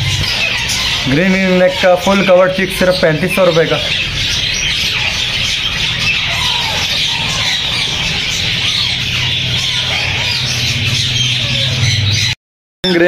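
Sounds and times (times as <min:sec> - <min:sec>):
caged birds chirping and squawking: 0:00.0 - 0:13.0.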